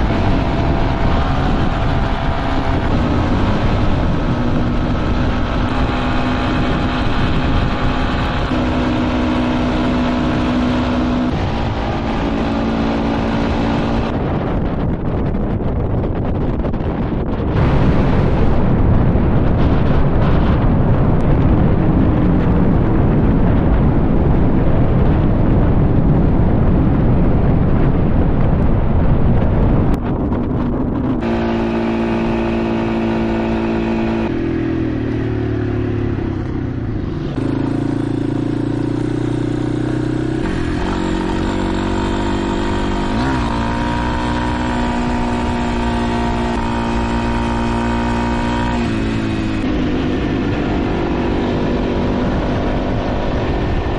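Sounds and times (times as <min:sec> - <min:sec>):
motorcycle engine rev: 0:00.0 - 0:25.7, 0:30.0 - 0:53.9
motorcycle engine running: 0:00.0 - 0:53.9
wind rush on microphone: 0:00.0 - 0:53.9.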